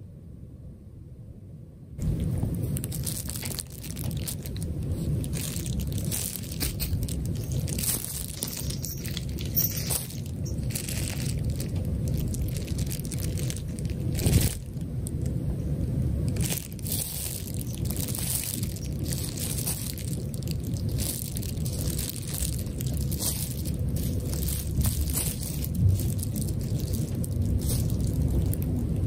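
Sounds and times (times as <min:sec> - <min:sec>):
bubble wrap crackling under paws: 0:02.0 - 0:15.3, 0:16.2 - 0:29.0.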